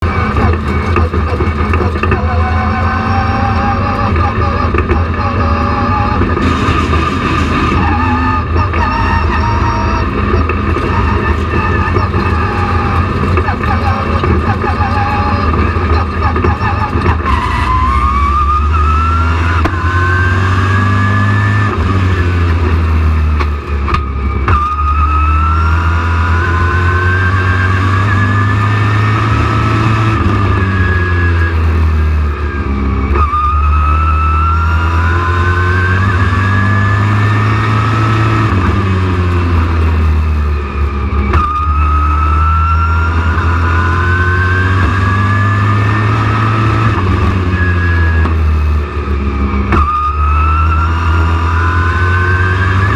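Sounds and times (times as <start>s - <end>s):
race truck engine revving: 0.0s - 52.9s.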